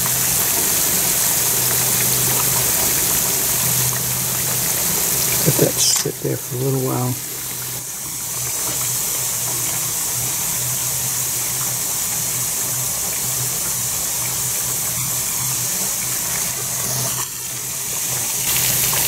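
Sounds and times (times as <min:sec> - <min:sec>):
hissing rush of melted wax: 0:00.0 - 0:19.0.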